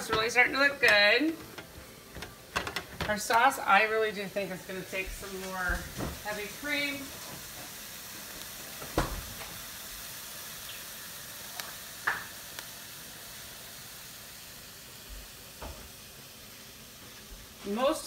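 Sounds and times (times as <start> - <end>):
food sizzling in a skillet: 0.0 - 18.0.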